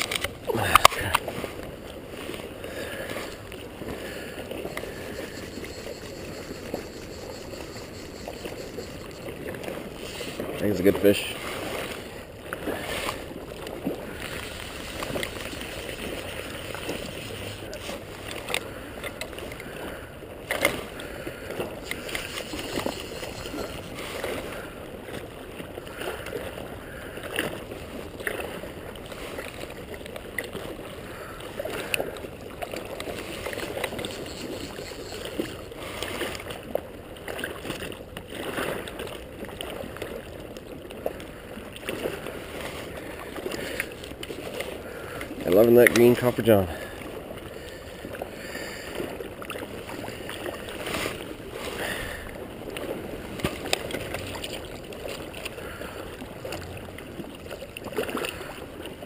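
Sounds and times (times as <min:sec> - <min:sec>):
small splashes and clicks: 0:00.0 - 0:05.0, 0:09.1 - 0:26.6, 0:27.2 - 0:59.0
river water lapping and gurgling: 0:00.0 - 0:59.0.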